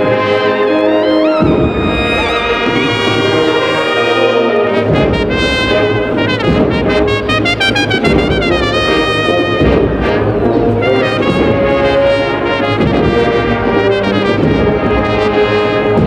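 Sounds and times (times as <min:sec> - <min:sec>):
brass band playing a march: 0:00.0 - 0:16.0.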